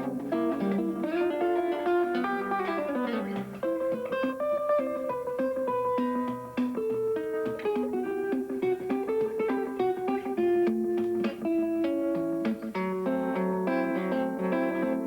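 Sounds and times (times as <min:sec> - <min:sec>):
solo guitar thumbpicking: 0:00.0 - 0:15.0.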